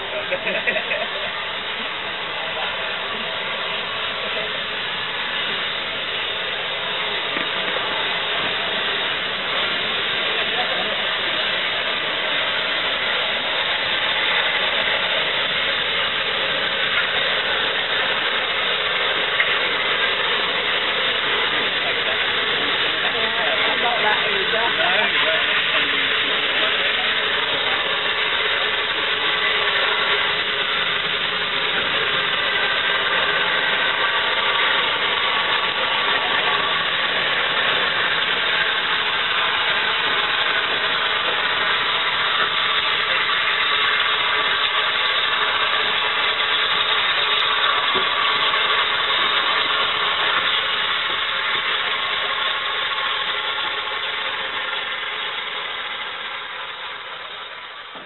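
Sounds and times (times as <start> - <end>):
steam locomotive hissing: 0.0 - 58.0.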